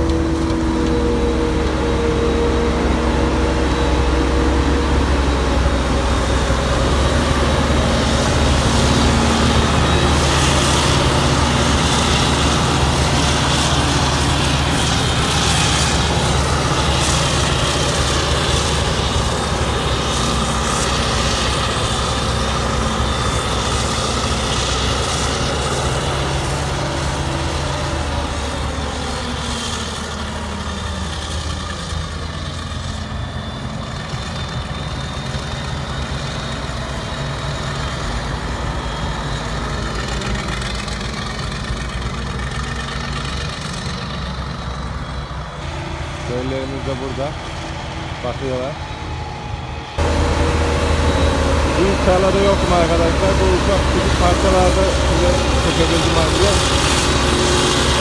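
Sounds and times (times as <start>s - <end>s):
forage harvester engine drone: 0.0s - 58.0s.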